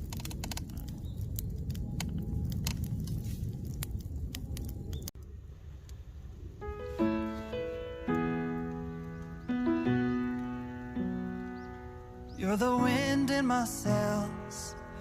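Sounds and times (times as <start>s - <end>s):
campfire crackling and popping: 0.0s - 6.0s, 6.7s - 14.2s.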